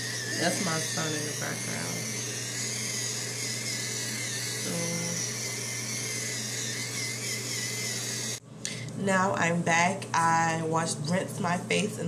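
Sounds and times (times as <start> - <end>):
cleansing brush motor hum: 0.0 - 12.0.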